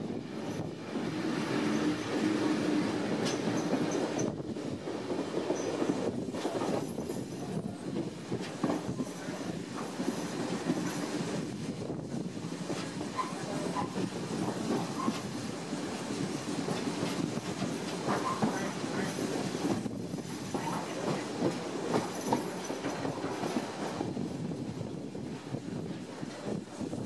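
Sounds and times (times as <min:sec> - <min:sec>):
train running rumble: 0:00.0 - 0:27.0
train wheels clattering over rails: 0:00.3 - 0:27.0.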